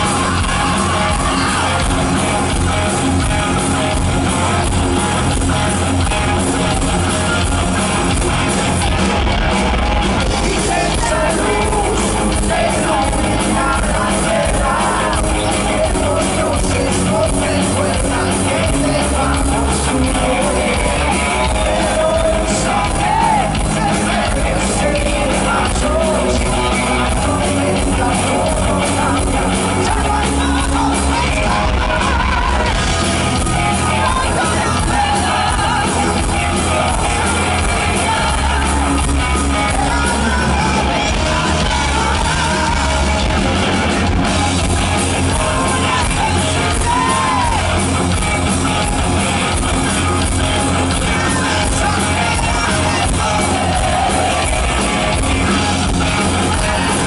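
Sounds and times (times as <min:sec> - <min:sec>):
person singing: 0:00.0 - 0:03.3, 0:10.2 - 0:43.6, 0:44.3 - 0:48.2, 0:48.8 - 0:57.0
bass guitar: 0:00.0 - 0:57.0
drums: 0:00.0 - 0:57.0
electric guitars: 0:00.0 - 0:57.0.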